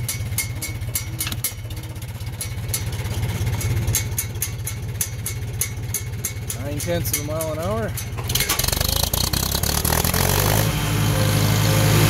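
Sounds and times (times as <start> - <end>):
tractor engine running slowly: 0.0 - 12.0.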